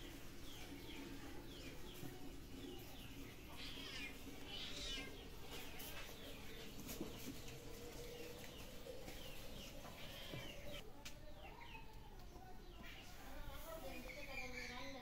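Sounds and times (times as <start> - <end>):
chickens clucking: 0.0 - 14.9
small birds chirping: 0.0 - 15.0.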